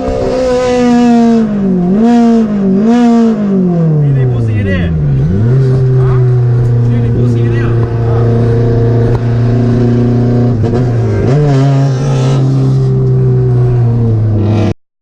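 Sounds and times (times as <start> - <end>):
car engine running: 0.0 - 14.7.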